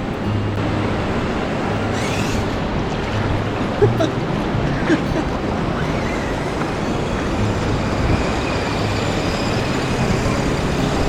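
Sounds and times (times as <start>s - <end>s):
ocean surf washing: 0.0s - 11.0s.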